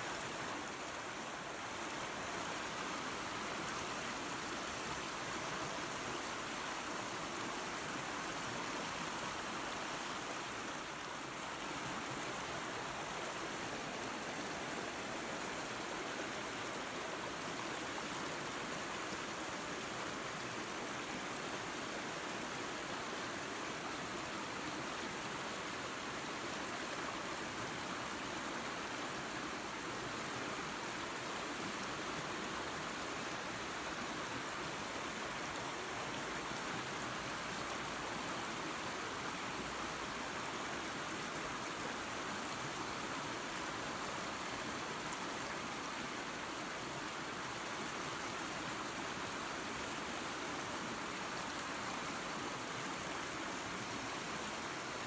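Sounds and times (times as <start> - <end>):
waterfall and creek water rushing: 0.0 - 55.0.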